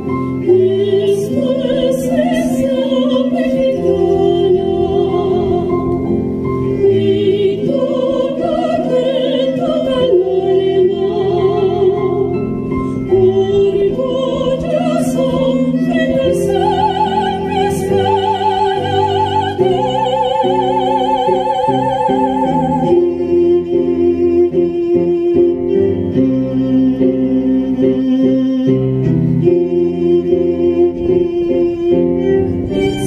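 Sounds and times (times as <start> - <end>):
keyboard: 0.0 - 33.0
sopranos singing with vibrato: 0.0 - 33.0
violin: 0.0 - 33.0.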